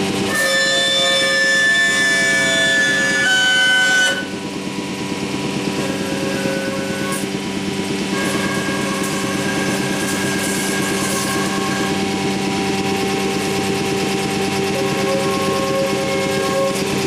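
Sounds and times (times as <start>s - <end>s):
machine humming: 0.0s - 17.0s
router spindle whine: 0.0s - 17.0s.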